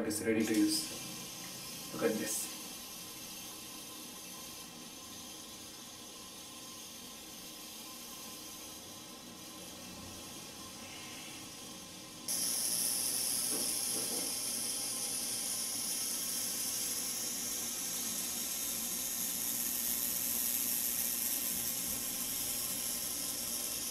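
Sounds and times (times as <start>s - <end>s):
vibration motor buzzing: 0.0s - 23.9s.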